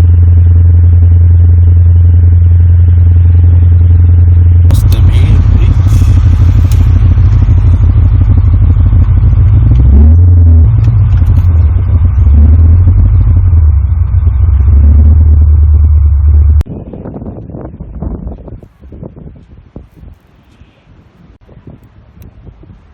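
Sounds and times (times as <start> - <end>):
car engine rumbling: 0.0 - 19.1.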